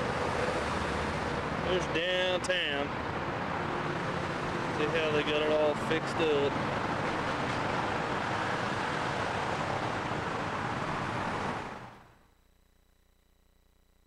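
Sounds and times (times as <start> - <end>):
rushing street noise: 0.0 - 12.0.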